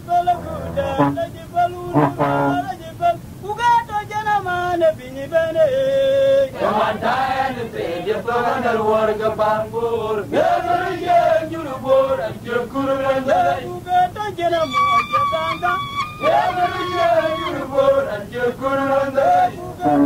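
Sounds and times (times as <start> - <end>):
men chanting: 0.0 - 2.8, 6.1 - 20.0.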